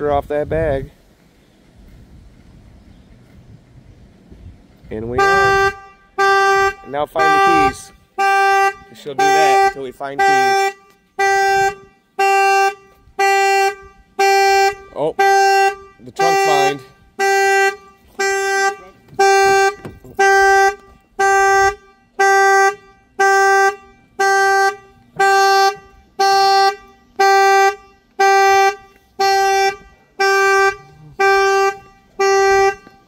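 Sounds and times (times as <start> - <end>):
car alarm horn honking: 5.1 - 33.0.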